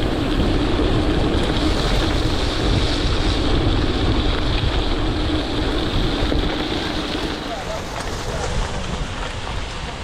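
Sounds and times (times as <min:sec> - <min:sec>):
bike tyres on gravel trail: 0:00.0 - 0:10.0
wind rumble on microphone: 0:00.0 - 0:10.0.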